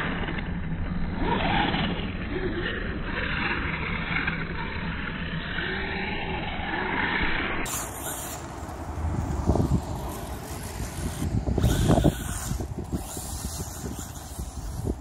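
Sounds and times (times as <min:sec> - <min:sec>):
rc car driving on dirt: 0:00.0 - 0:15.0.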